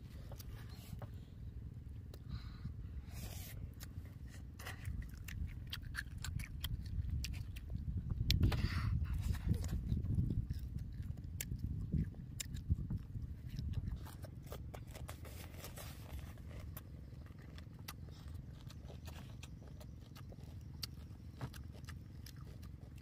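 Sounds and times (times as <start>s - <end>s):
low rumble: 0.0s - 23.0s
person chewing with mouth clicks: 3.7s - 23.0s.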